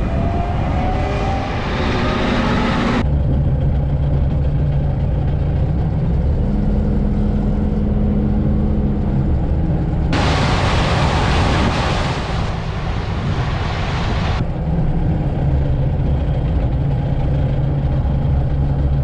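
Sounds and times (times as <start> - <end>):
tractor engine running: 0.0 - 19.0
wind: 0.0 - 19.0.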